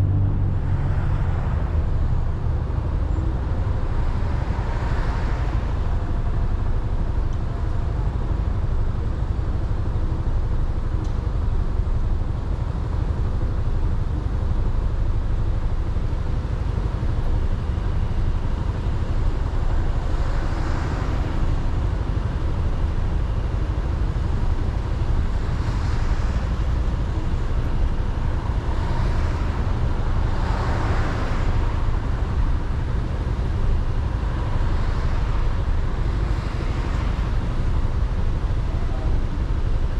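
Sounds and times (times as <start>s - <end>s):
passing traffic: 0.0s - 39.9s.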